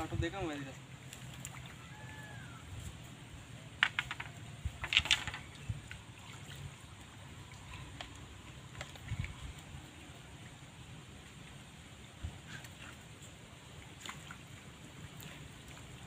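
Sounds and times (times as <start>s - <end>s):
water splashing at shore: 0.0s - 3.0s, 3.8s - 16.0s.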